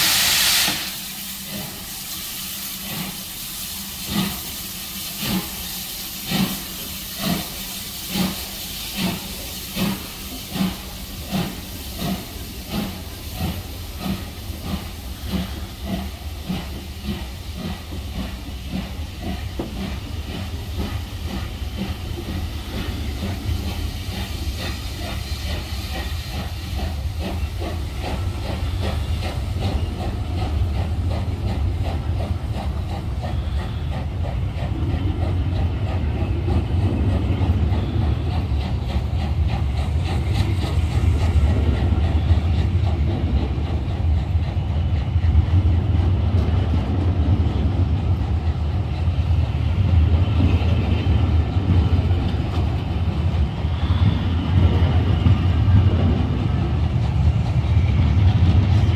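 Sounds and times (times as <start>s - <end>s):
hiss of steam: 0.0s - 58.9s
steam locomotive exhaust chuffs: 0.0s - 58.9s
train wheels rumbling on rails: 0.0s - 58.9s.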